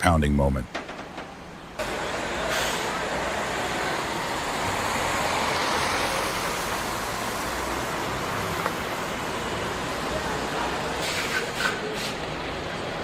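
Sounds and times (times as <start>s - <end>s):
road traffic rushing hiss: 1.3s - 13.0s.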